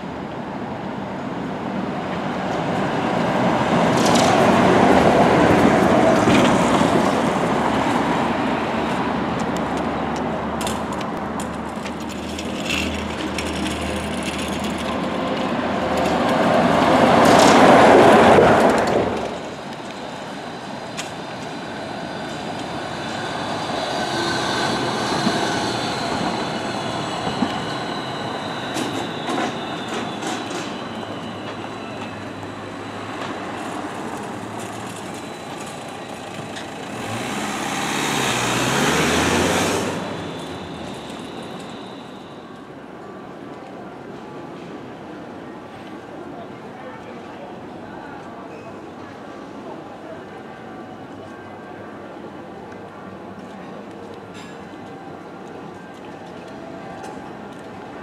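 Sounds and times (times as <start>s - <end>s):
street traffic: 0.0s - 58.0s
trolleybus passing: 0.0s - 58.0s.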